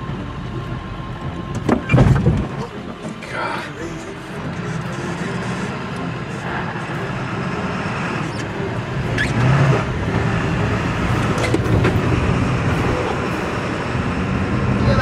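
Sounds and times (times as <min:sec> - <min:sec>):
pickup truck road rumble: 0:00.0 - 0:15.0.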